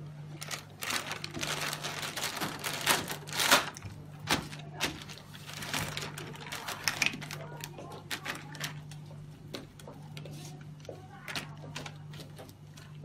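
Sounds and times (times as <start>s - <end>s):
plastic packaging rustling: 0.3s - 13.0s.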